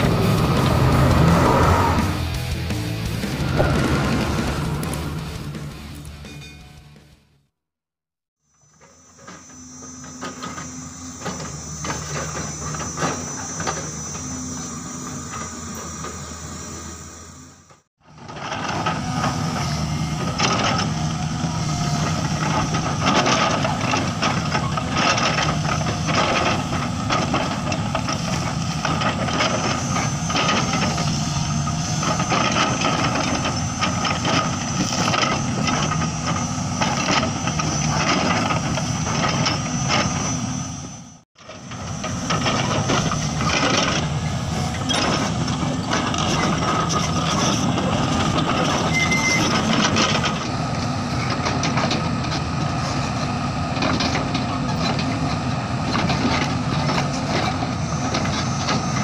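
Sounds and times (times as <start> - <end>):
excavator engine and hydraulics: 0.0 - 7.3, 8.5 - 59.0.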